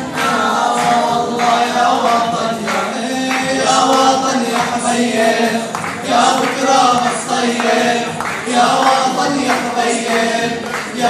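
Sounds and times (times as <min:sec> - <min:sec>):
group of men singing: 0:00.0 - 0:11.0.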